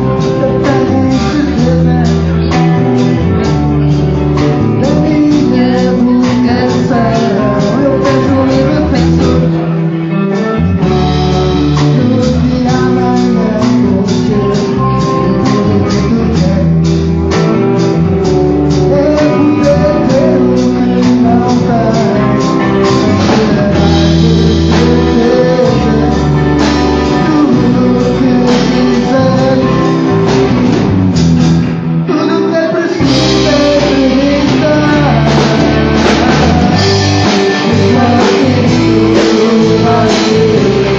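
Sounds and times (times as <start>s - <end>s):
person singing: 0.0s - 31.0s, 31.8s - 40.9s
band playing a song: 0.0s - 40.9s.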